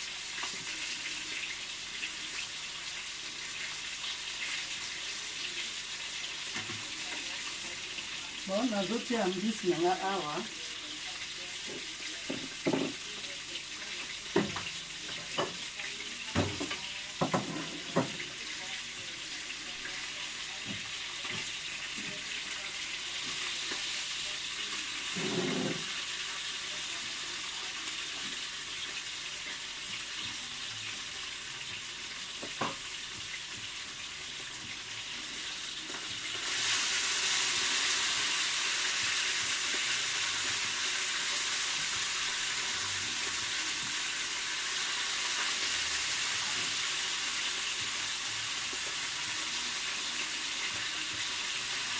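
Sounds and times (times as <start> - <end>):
fish sizzling in a pot: 0.0 - 51.9.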